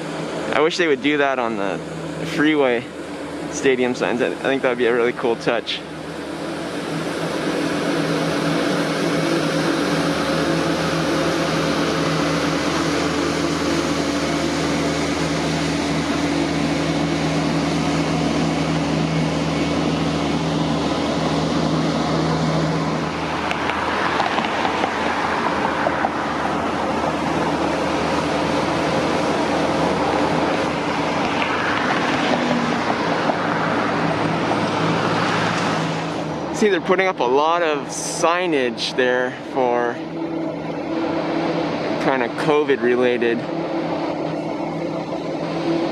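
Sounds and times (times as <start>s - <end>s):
road noise: 0.0s - 45.9s
vehicle engine hum: 0.0s - 45.9s.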